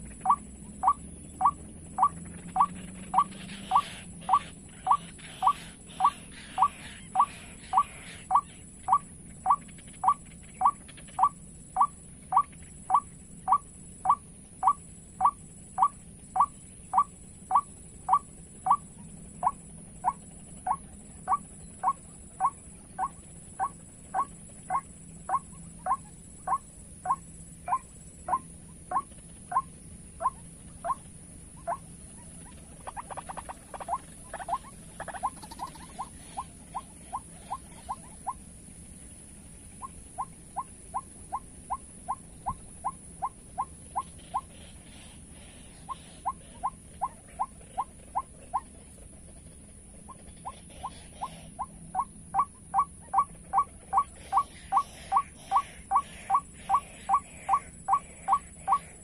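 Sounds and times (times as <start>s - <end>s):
waterhen calls: 0.0s - 38.4s, 39.8s - 48.9s, 50.0s - 59.0s.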